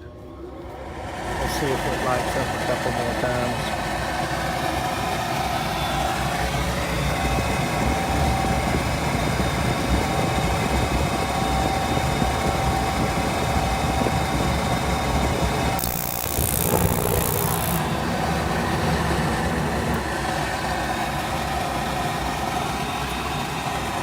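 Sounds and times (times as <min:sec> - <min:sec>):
heating unit motor whir: 0:00.0 - 0:24.0.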